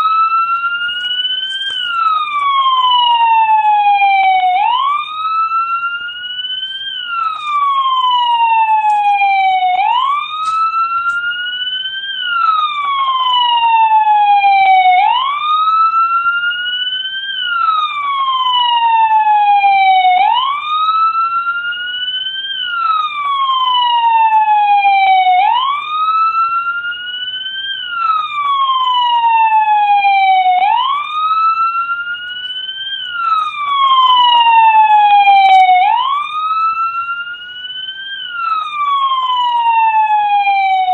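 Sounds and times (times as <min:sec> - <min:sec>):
police siren wailing: 0:00.0 - 0:40.9.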